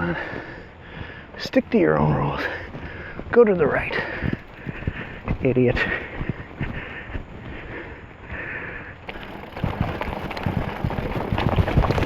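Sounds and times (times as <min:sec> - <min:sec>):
mountain bike rattling over rocks: 0:02.2 - 0:12.0.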